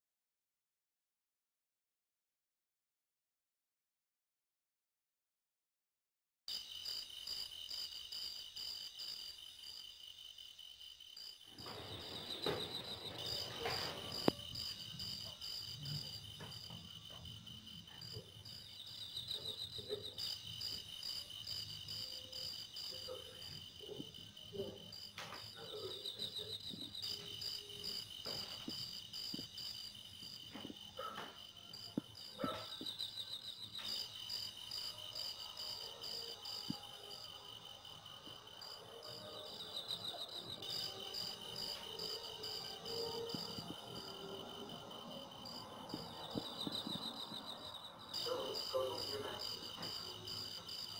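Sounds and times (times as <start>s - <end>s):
cricket chirping: 6.5s - 50.9s.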